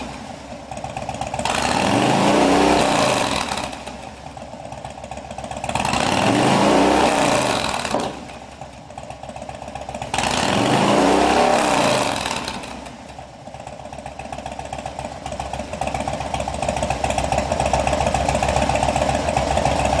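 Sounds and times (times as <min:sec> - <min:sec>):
motorcycle engine revving and idling: 0:00.0 - 0:20.0.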